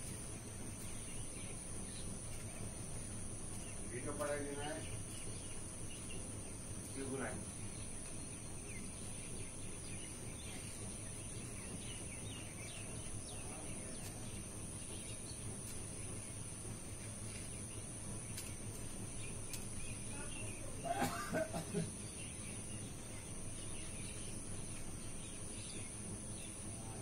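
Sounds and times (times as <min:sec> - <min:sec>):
background hiss: 0:00.0 - 0:27.0
faint bird chirps: 0:00.0 - 0:27.0.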